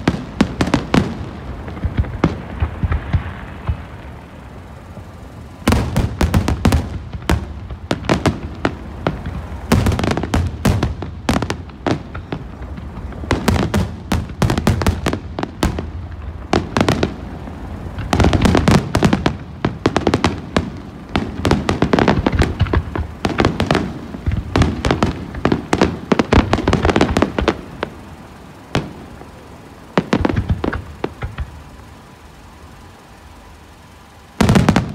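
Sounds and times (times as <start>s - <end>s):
fireworks bursts and bangs: 0.0s - 34.9s.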